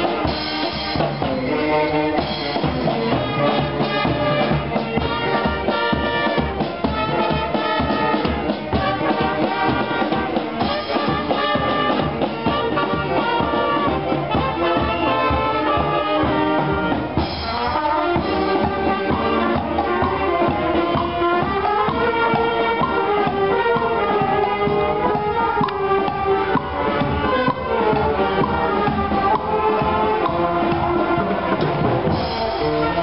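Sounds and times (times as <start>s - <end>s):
marching brass band playing: 0.0s - 33.0s.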